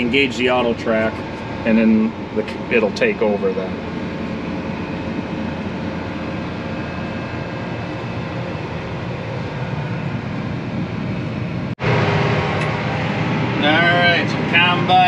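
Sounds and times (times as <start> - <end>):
tractor diesel engine drone: 0.0 - 15.0.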